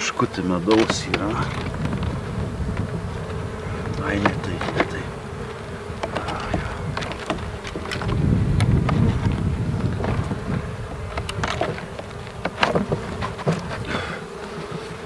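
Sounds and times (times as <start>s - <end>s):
bees buzzing: 0.0s - 15.0s
wood knocking on wood: 0.7s - 5.1s, 5.9s - 14.0s.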